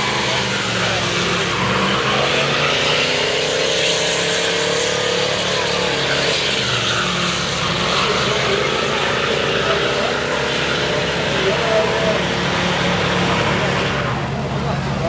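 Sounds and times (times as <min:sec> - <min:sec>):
car engine at high revs: 0:00.0 - 0:15.0
tyres screeching on asphalt: 0:00.0 - 0:15.0.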